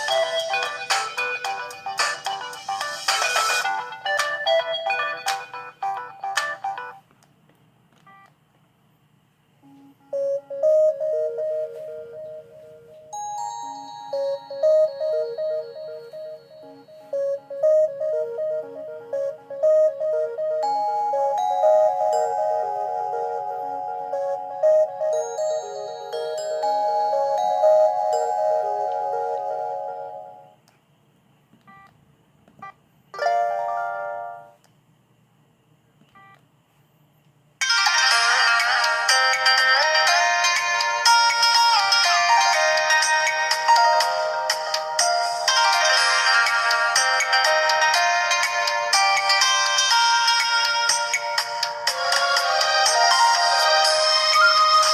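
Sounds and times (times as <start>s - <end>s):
polyphonic phone ringtone: 0.0s - 7.0s, 9.6s - 30.5s, 37.6s - 54.9s.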